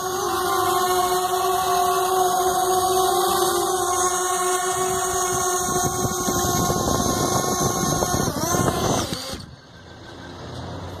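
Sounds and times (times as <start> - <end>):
faint street background: 0.0 - 11.0
quadcopter motors whining: 0.0 - 11.0.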